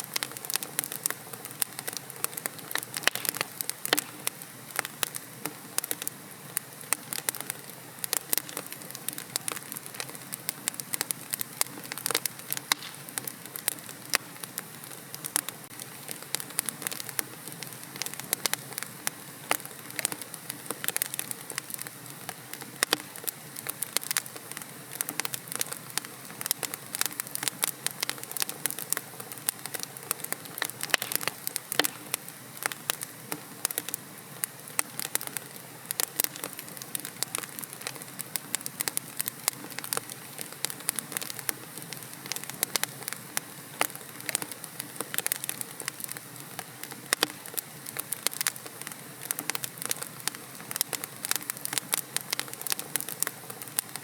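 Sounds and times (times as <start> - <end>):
hiss of flame: 0.0 - 54.0
logs crackling and popping: 0.0 - 54.0.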